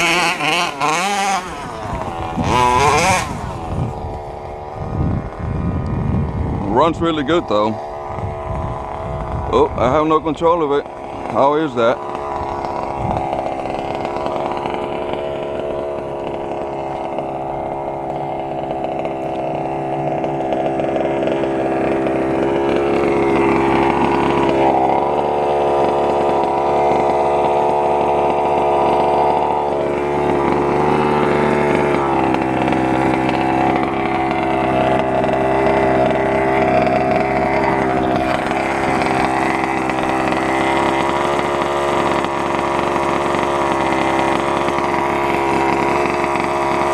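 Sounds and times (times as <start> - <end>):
small two-stroke engine running: 0.0 - 46.9.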